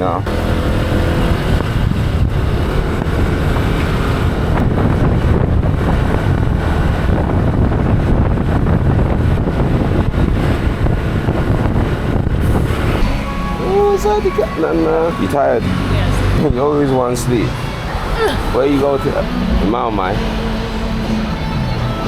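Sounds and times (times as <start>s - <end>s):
road noise: 0.0s - 22.0s
vehicle engine: 0.0s - 22.0s
wind buffeting microphone: 0.0s - 22.0s.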